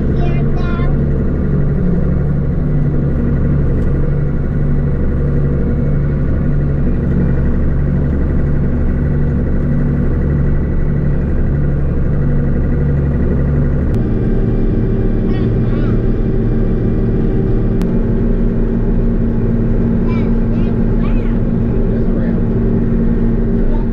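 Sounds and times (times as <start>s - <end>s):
combine engine drone: 0.0s - 23.9s.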